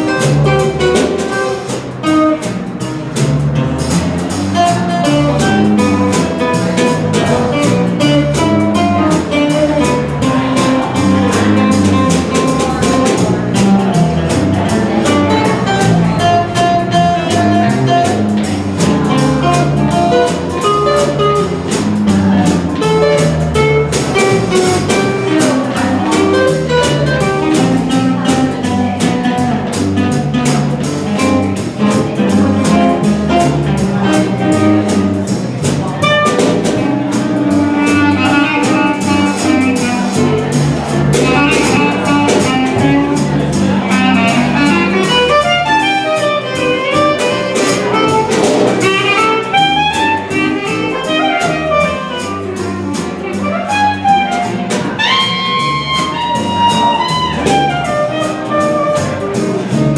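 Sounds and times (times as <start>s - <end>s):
clarinet melody: 0.0s - 59.9s
drum kit: 0.0s - 59.9s
electric guitar chords: 0.0s - 59.9s.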